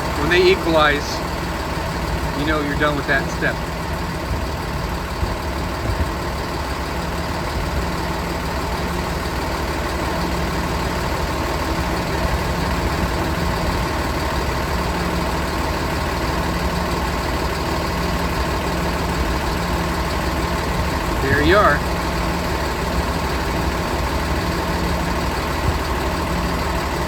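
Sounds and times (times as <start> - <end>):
bus engine idling: 0.0 - 27.0.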